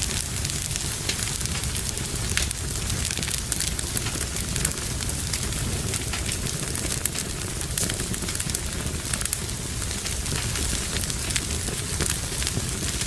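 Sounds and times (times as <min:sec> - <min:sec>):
low rumble of flames: 0:00.0 - 0:13.0.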